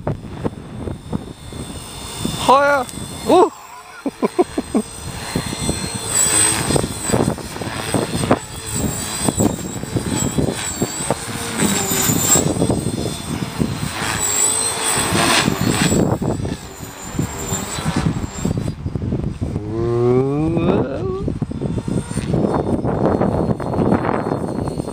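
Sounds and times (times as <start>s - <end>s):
rc helicopter motor whine: 0.0s - 24.9s
wind gusting over microphone: 0.0s - 24.9s.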